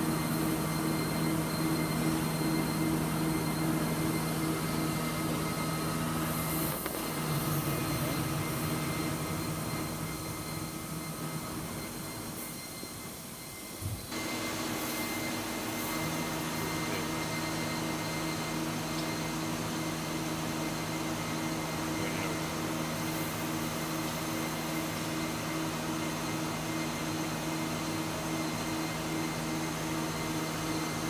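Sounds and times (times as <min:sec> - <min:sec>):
machining center hum: 0:00.0 - 0:31.0.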